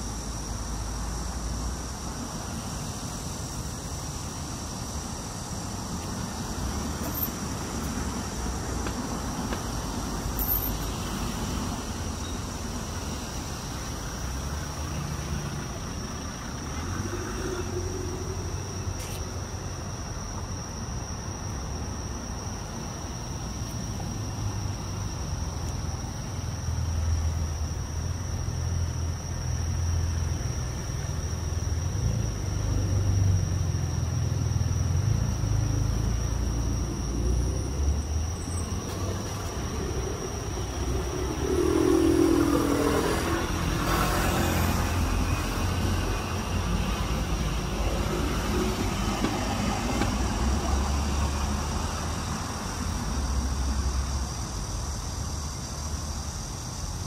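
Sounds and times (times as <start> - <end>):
passing traffic rumble: 0.0 - 57.0.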